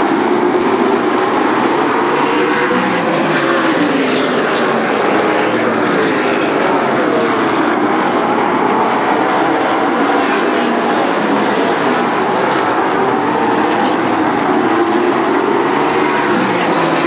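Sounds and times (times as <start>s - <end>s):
race car engines roaring: 0.0s - 17.0s.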